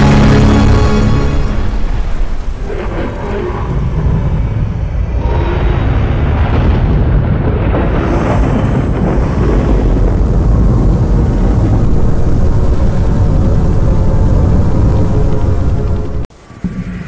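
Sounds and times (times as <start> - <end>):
deep rumble of robot battle effects: 0.0 - 17.0.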